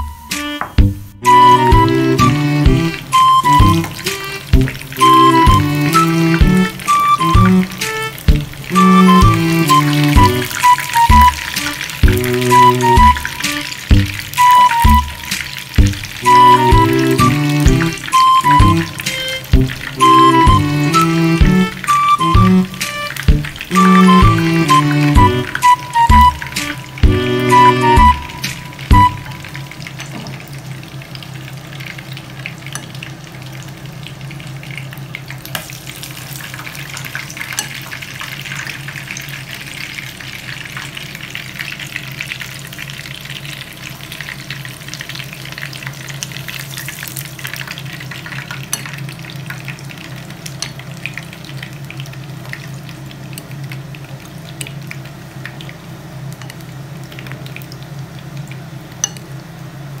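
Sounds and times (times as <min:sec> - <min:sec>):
eggs frying in oil: 0:00.0 - 1:00.0.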